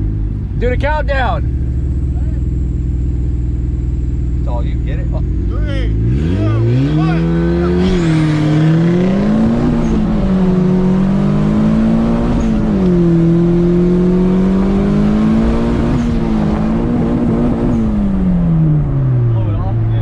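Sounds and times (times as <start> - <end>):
car engine revving at full throttle: 0.0 - 20.0.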